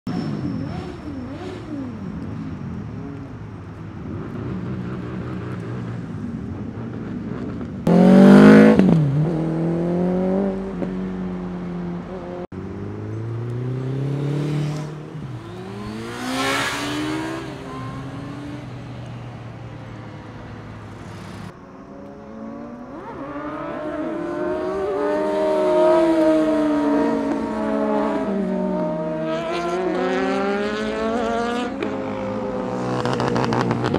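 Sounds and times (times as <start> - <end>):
motorcycle engines revving: 0.0 - 33.9.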